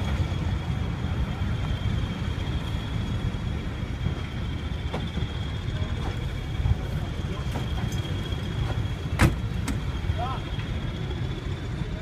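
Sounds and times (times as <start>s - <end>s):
wheels clicking over rail joints: 0.0s - 11.2s
high-pitched whine: 0.0s - 12.0s
train wheels rumbling on track: 0.0s - 12.0s.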